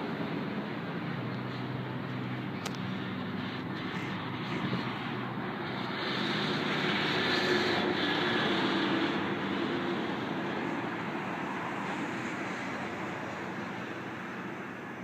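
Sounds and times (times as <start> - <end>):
tyre and road noise: 0.0 - 15.0
vehicle engine hum: 0.0 - 15.0.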